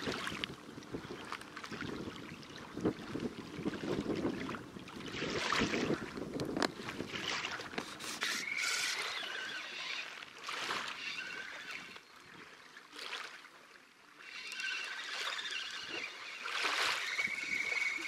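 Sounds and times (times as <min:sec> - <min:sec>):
waves lapping on sandy shore: 0:00.0 - 0:18.0.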